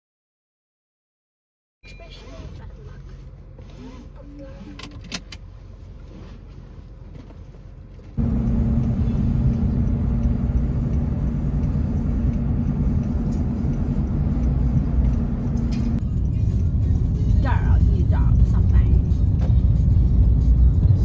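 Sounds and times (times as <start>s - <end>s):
car road and engine rumble: 1.8s - 21.0s.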